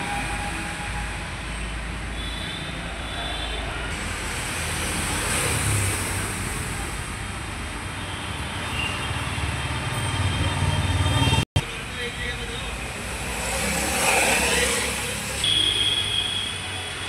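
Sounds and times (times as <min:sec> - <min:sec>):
road traffic rumble and hiss: 0:00.0 - 0:17.0.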